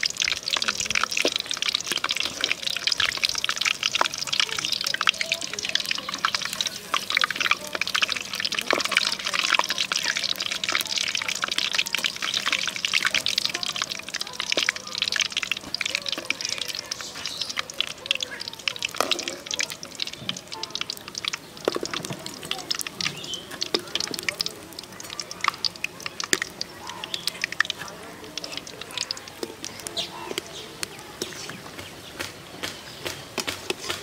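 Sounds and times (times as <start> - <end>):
chilies deep-frying in oil: 0.0 - 34.0
crackles and pops of frying: 0.0 - 34.0.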